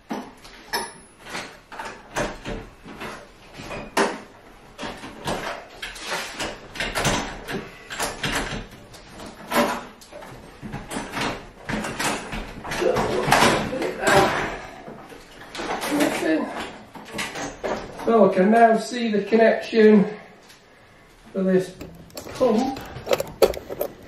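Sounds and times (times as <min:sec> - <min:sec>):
knocks clicks and scrapes of metal parts: 0:00.0 - 0:18.1, 0:21.7 - 0:24.0.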